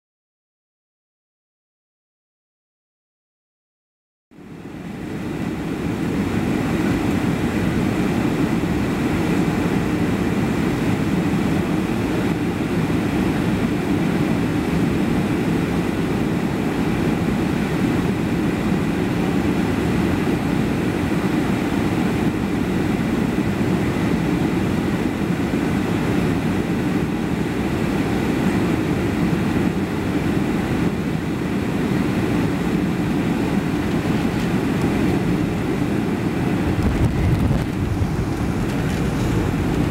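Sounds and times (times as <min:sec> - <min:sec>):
airliner engines and rushing air: 0:04.3 - 0:39.9.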